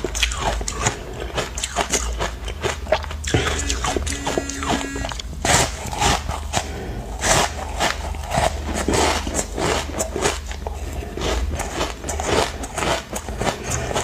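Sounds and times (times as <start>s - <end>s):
ice being bitten and crunched: 0.0s - 14.0s.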